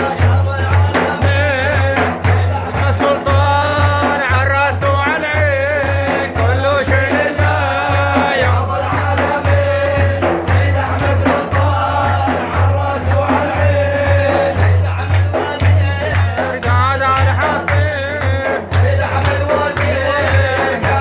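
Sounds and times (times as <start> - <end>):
low drum beat: 0.0 - 21.0
man singing religious praise song: 0.0 - 21.0.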